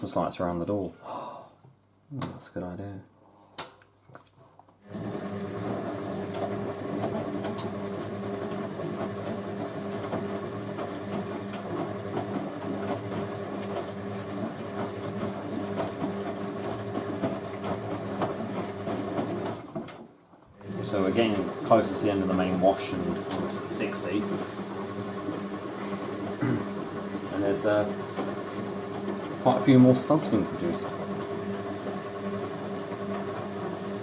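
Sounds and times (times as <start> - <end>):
washing machine drum motor humming: 4.8 - 34.0.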